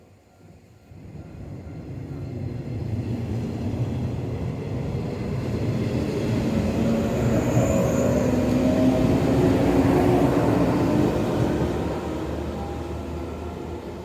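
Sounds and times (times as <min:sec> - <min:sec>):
train rumbling: 0:00.9 - 0:14.0.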